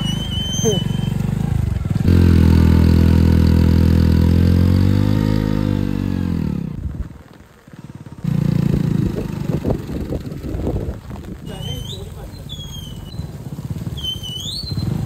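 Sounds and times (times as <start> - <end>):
motorcycle engine pulling away: 0.0 - 15.0.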